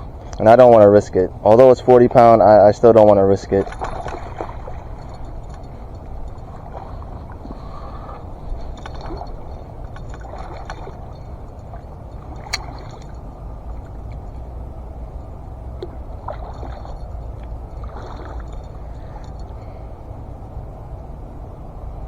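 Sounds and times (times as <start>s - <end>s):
wind rumbling on microphone: 0.0s - 22.0s
water sloshing: 1.4s - 19.9s.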